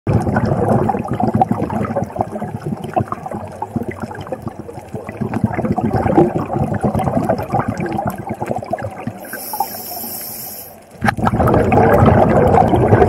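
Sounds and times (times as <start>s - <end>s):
muffled underwater crackling and bubbling: 0.1s - 13.0s.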